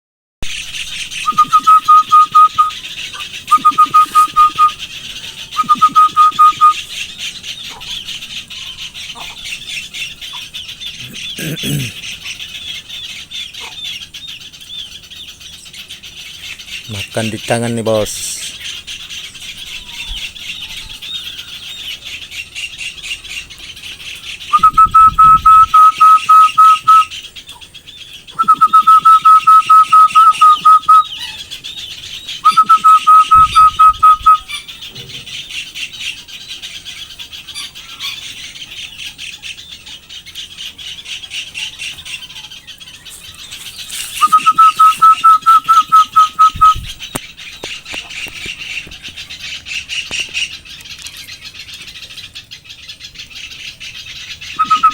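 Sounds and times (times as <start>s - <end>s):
birds chattering: 0.4s - 54.9s.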